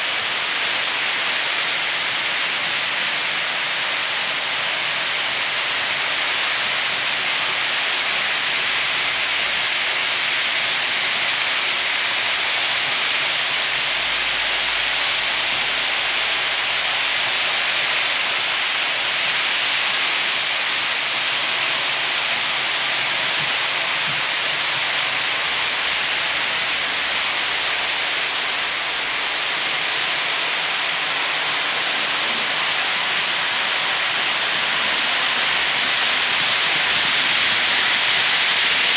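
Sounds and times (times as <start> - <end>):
model train wheels hissing on rails: 0.0 - 38.9.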